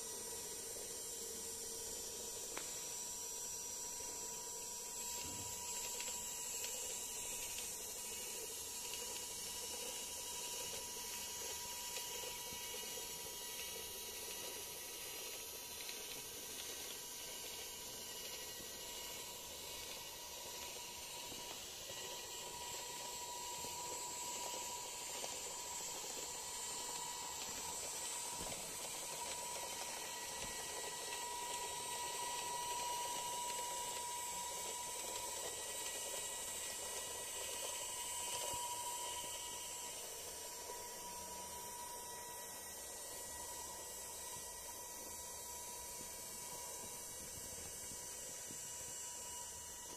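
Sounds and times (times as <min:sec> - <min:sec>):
small electric motor whining: 0:00.0 - 0:49.9.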